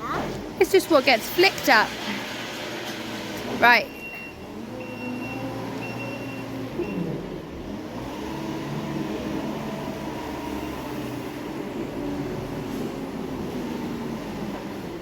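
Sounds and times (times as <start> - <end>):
farm machinery engine running: 0.3 - 15.0.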